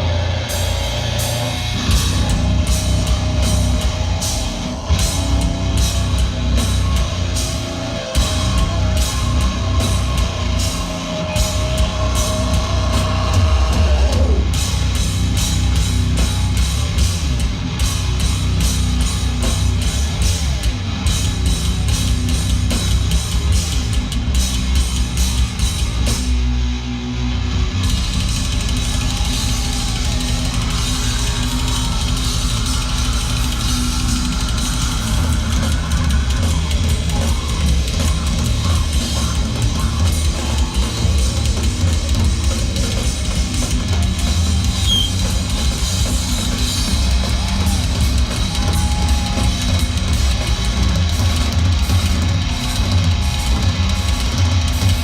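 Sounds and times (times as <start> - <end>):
rapid drum-kit hits: 0.0 - 26.8, 27.4 - 55.0
distorted guitars: 0.0 - 55.0
heavy metal band playing: 0.0 - 55.0.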